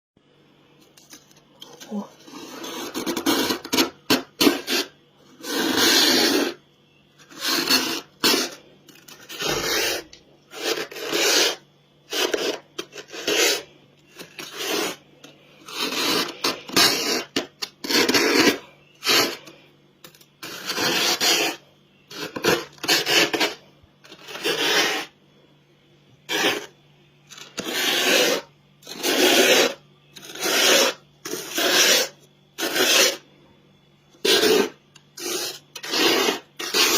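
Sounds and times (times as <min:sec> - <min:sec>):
low steady hum: 0:00.2 - 0:36.9
frost being scraped: 0:00.9 - 0:06.6, 0:07.2 - 0:25.2, 0:26.2 - 0:33.3, 0:34.1 - 0:36.9.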